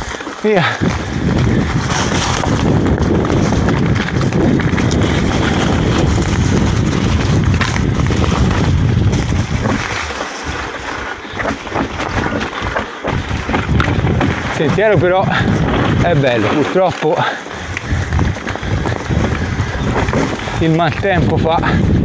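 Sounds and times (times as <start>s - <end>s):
wind rushing over microphone: 0.0s - 22.0s
heavy low rumble: 0.8s - 10.1s, 11.3s - 22.0s.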